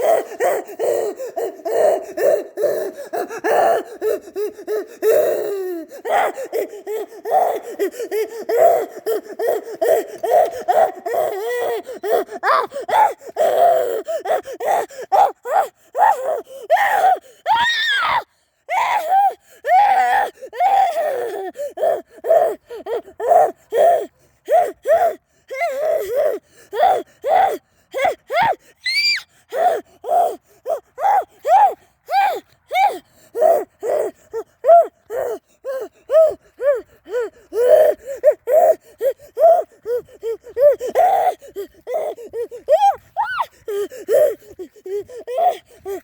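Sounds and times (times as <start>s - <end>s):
high-pitched squeaky gasping cries: 0.0s - 46.0s.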